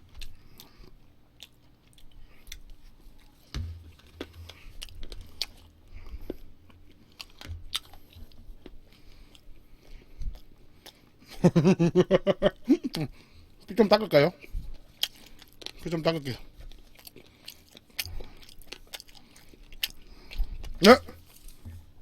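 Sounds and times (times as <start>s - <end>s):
chewing and biting meat: 0.0s - 11.5s, 14.4s - 21.6s.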